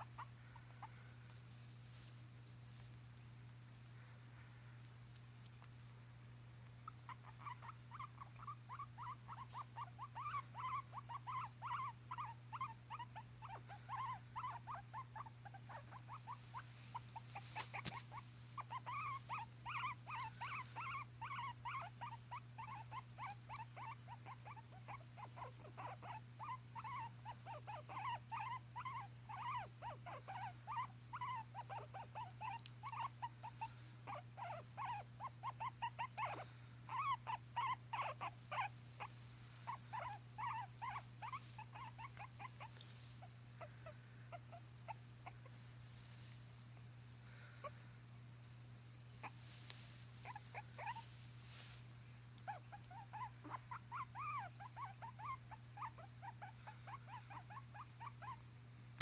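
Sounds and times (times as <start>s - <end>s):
small animal squeaking: 0.0s - 1.1s, 6.8s - 45.5s, 49.1s - 51.8s, 52.4s - 58.5s
steady low hum: 0.0s - 59.0s.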